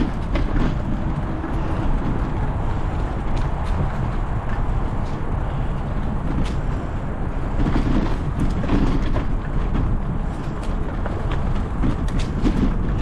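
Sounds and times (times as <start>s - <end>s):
bicycle rattling and clicking: 0.0s - 13.0s
wind rumbling on microphone: 0.0s - 13.0s.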